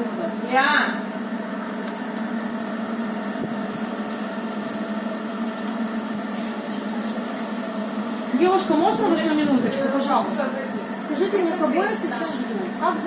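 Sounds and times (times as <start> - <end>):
exhaust fan hum: 0.0 - 13.0.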